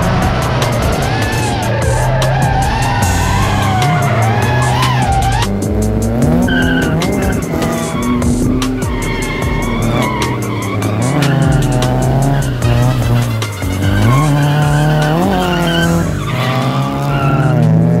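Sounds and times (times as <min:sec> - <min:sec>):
car engine revving: 0:00.0 - 0:18.0
tyres skidding: 0:00.0 - 0:18.0.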